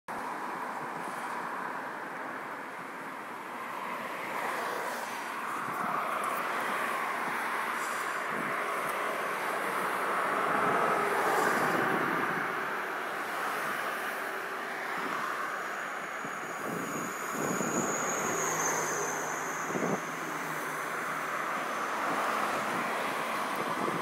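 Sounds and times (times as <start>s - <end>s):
road traffic rushing: 0.1s - 24.0s.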